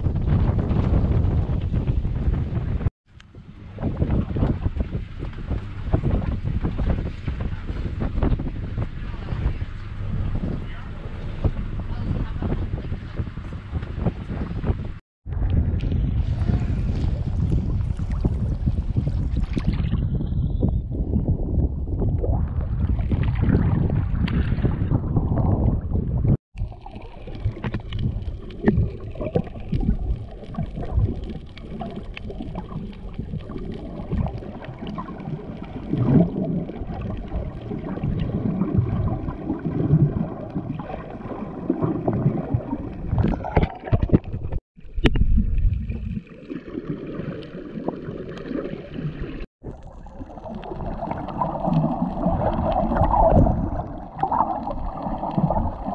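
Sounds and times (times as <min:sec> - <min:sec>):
crackles and splashes: 0:00.0 - 0:55.9
muffled underwater water wash: 0:00.0 - 0:55.9
waves sloshing and gurgling: 0:00.0 - 0:55.9.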